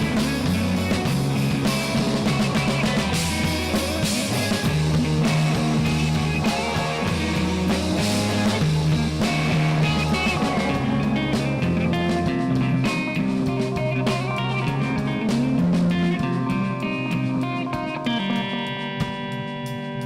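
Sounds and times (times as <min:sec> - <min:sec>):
bass guitar: 0:00.0 - 0:20.0
drums: 0:00.0 - 0:20.0
electric guitars: 0:00.0 - 0:20.0.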